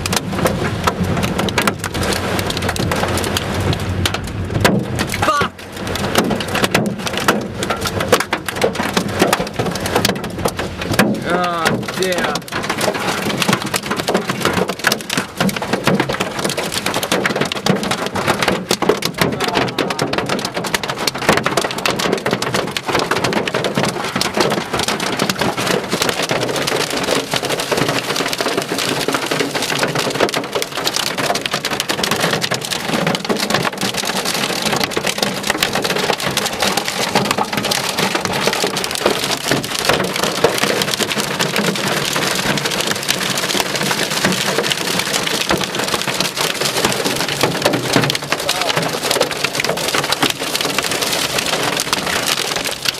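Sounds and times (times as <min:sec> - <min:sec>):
rain and hail pelting a car: 0:00.0 - 0:52.9.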